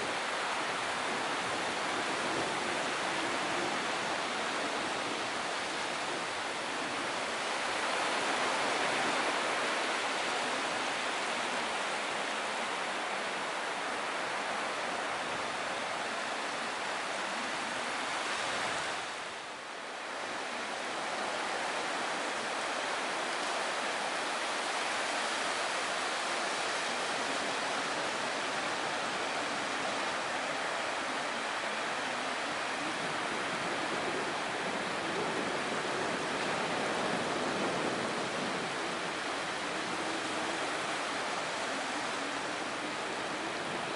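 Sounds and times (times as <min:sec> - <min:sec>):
waves washing up a beach: 0:00.0 - 0:43.9.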